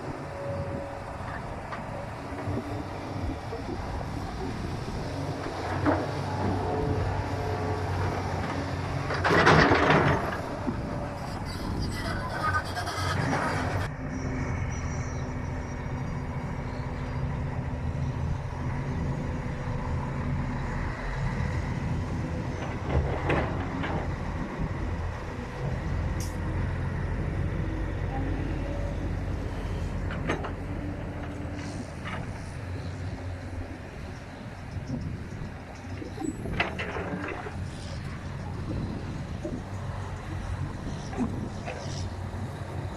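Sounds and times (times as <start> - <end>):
excavator diesel engines running: 0.0 - 42.9.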